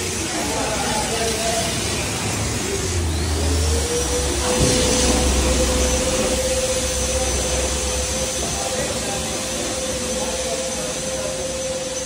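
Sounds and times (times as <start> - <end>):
car wash motor whining: 0.0 - 12.0
hissing water spray: 0.0 - 12.0.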